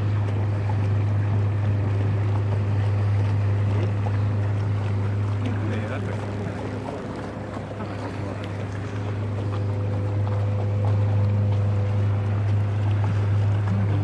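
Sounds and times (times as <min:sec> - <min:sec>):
boat motor droning: 0:00.0 - 0:14.0
water noise: 0:00.0 - 0:14.0
wind: 0:00.0 - 0:14.0.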